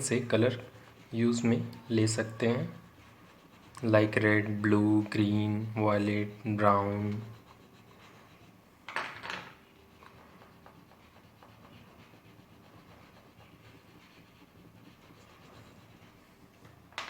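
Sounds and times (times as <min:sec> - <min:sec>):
crayon scratching on paper: 0:00.0 - 0:16.6.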